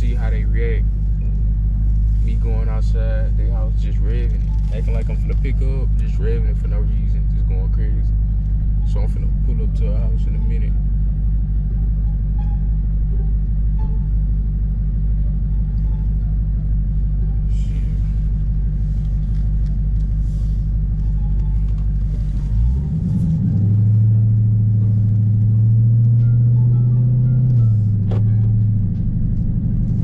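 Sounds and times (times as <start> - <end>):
car engine rumbling while driven: 0.0 - 30.0.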